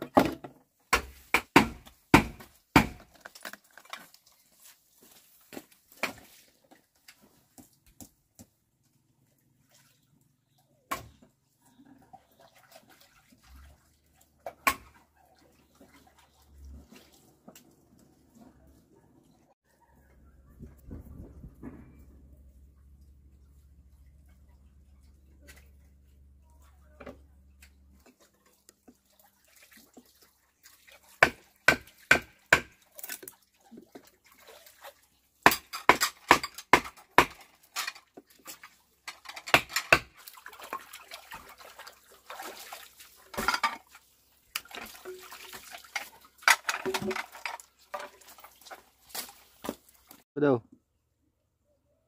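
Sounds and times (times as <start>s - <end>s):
rustling or splashing: 0.8s - 19.2s, 20.6s - 50.3s.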